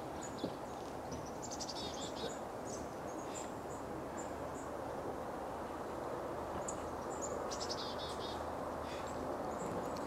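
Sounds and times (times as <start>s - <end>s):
small birds chirping: 0.0s - 4.8s, 6.6s - 10.0s
steady background hiss: 0.0s - 10.0s.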